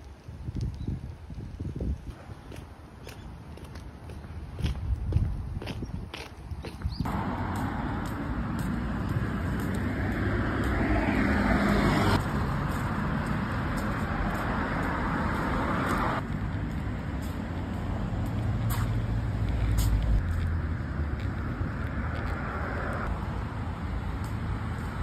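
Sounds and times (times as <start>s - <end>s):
vehicle low rumble: 0.0s - 25.0s
cars passing on road: 2.1s - 25.0s.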